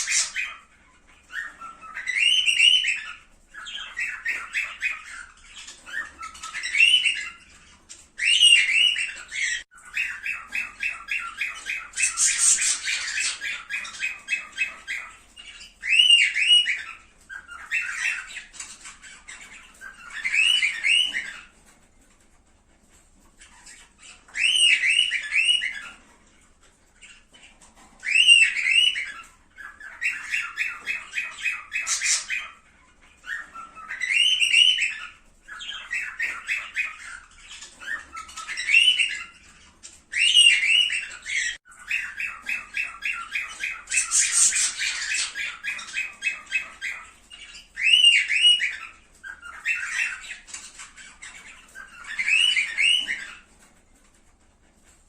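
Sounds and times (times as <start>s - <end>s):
cockatiels squawking: 0.0s - 22.2s, 22.9s - 55.0s
cockatiels chattering: 0.0s - 55.0s.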